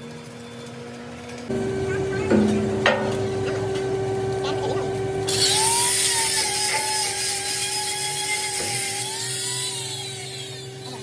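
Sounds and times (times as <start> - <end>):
power tool whining: 1.5 - 11.0.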